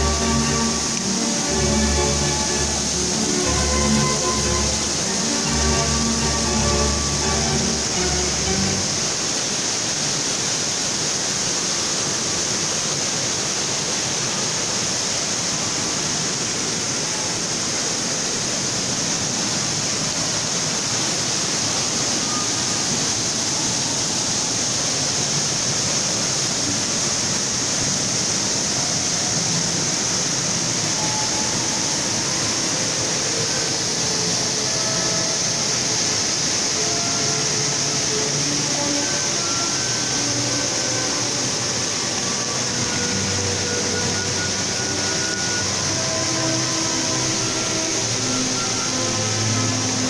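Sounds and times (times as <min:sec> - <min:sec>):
waterfall rushing over rocks: 0:00.0 - 0:50.0.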